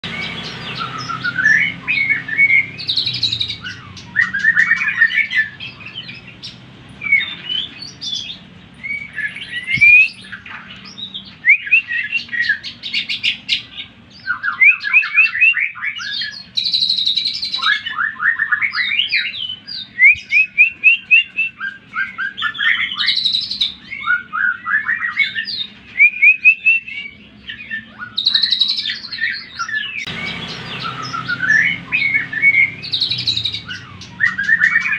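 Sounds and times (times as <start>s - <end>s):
bird singing whistles: 0.0s - 34.9s.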